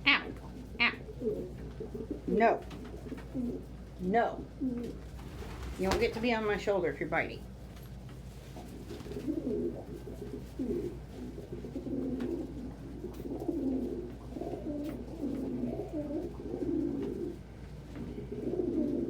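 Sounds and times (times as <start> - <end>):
pigeons cooing: 0.0 - 6.6, 8.5 - 19.0.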